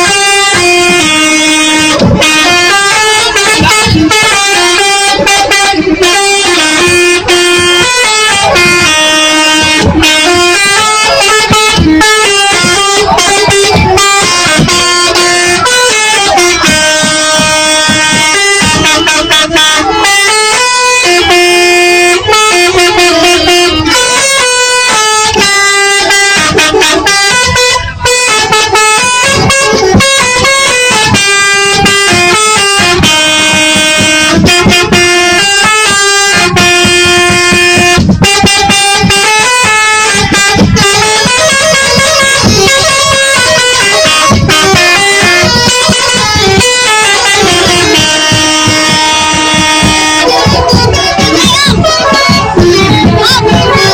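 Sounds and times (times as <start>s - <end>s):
multi-tone bus horn tune: 0.0s - 53.9s.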